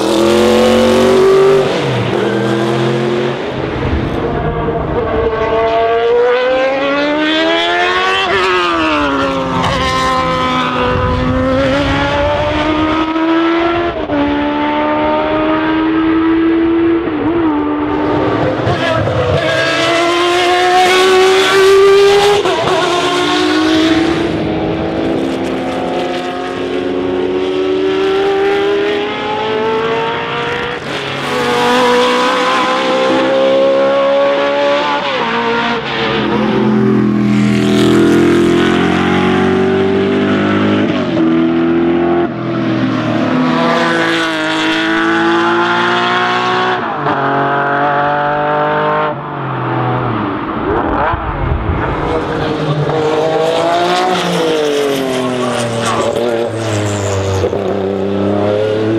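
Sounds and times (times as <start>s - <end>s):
racing car engine revving: 0.0s - 58.9s.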